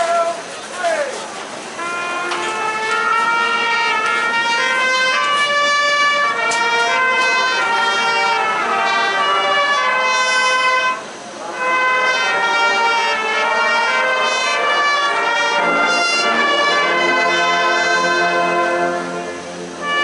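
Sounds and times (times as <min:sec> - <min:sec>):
marching band brass chords: 0:00.1 - 0:20.0.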